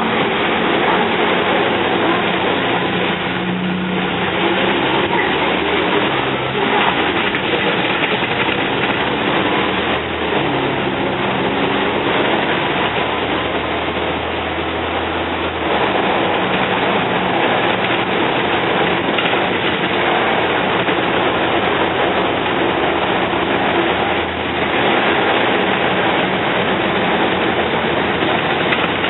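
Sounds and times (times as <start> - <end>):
diesel bus engine running: 0.0 - 29.0
road and cabin noise: 0.0 - 29.0.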